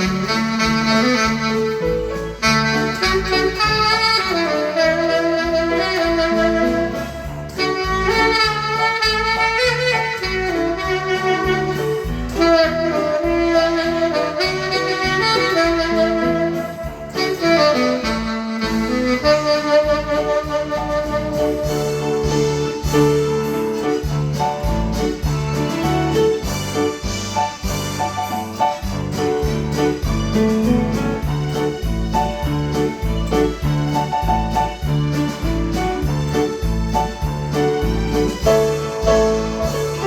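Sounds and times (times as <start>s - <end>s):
keyboard accompaniment: 0.0s - 40.0s
tenor saxophone melody: 0.0s - 40.0s.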